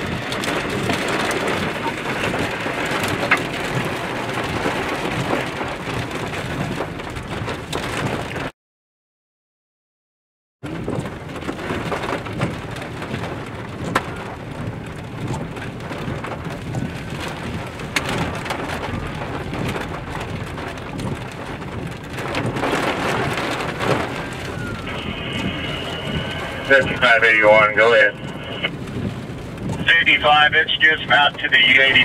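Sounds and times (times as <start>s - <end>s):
rain falling on a car: 0.0s - 8.5s, 10.6s - 32.0s.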